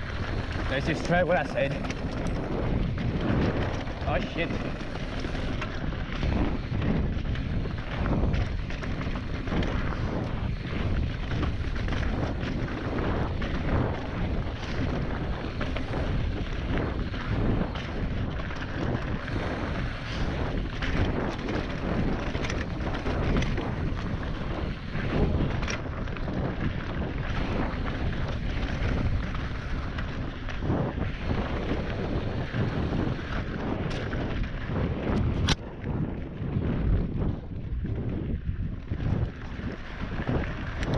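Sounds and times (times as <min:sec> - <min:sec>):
wheels knocking on stones: 0:00.0 - 0:36.2, 0:38.8 - 0:40.9
bike and tyres rattling: 0:00.0 - 0:40.9
wind buffeting microphone: 0:00.0 - 0:40.9.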